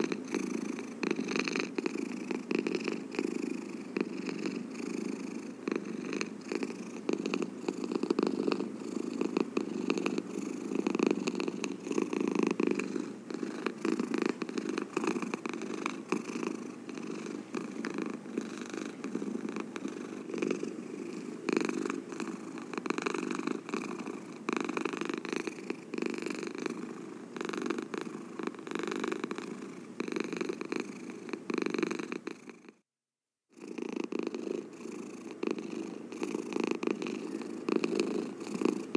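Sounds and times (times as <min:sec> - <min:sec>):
cat purring: 0:00.0 - 0:32.9, 0:33.5 - 0:38.9.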